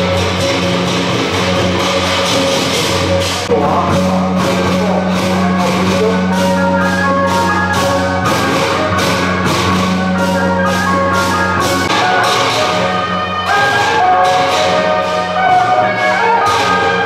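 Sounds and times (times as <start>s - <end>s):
drum: 0.0s - 17.0s
hand cymbals crashing: 0.0s - 17.0s
melody: 3.2s - 17.0s.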